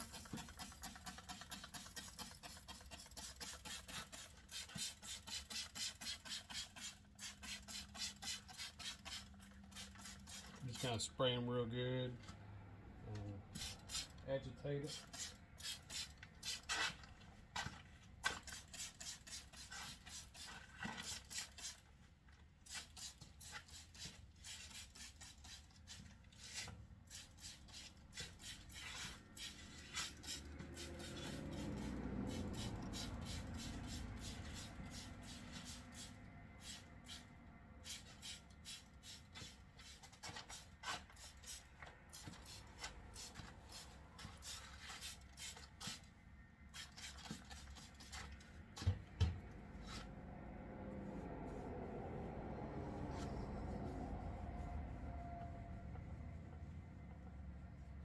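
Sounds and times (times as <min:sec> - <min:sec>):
brush scrubbing wet plush: 0:00.0 - 0:11.0, 0:14.8 - 0:58.0.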